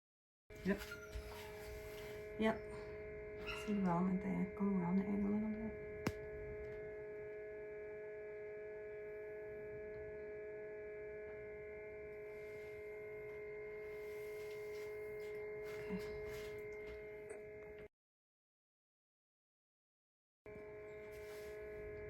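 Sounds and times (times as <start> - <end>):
electrical hum: 0.5 - 17.9, 20.5 - 22.0.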